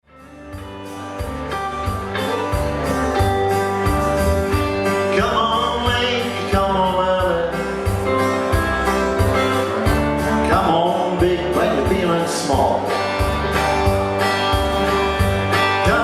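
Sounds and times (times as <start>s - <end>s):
live country music with guitar: 0.1s - 16.0s.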